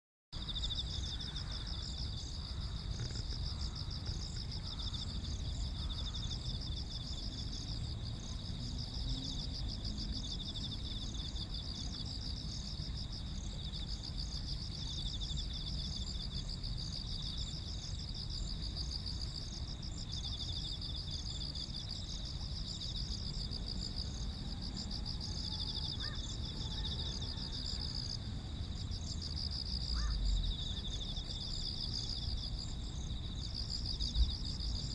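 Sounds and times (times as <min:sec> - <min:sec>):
insects trilling: 0:00.4 - 0:34.9.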